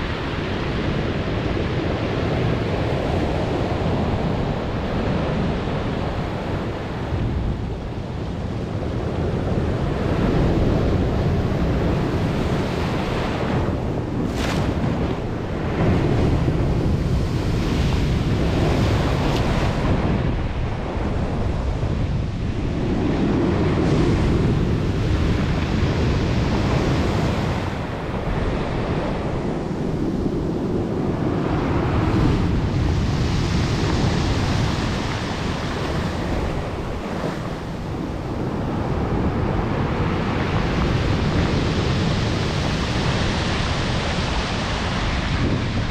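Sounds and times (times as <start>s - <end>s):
heavy waves breaking on shore: 0.0s - 45.9s
wind buffeting microphone: 0.0s - 45.9s.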